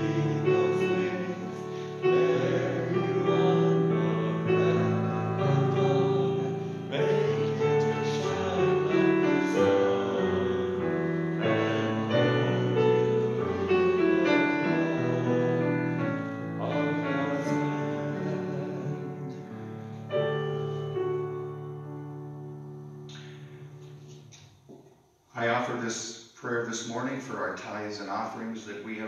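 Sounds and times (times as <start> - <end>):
slow keyboard chords: 0.0 - 24.8.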